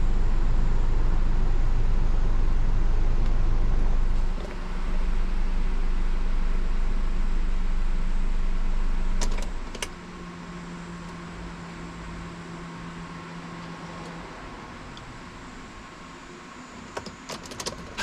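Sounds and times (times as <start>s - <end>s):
car engine idling: 0.0s - 17.3s.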